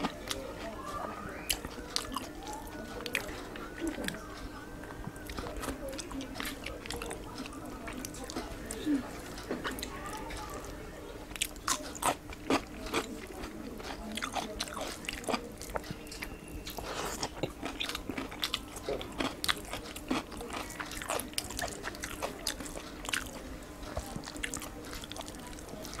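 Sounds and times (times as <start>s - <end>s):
man chewing with lip smacks: 1.4s - 10.0s, 11.3s - 26.0s.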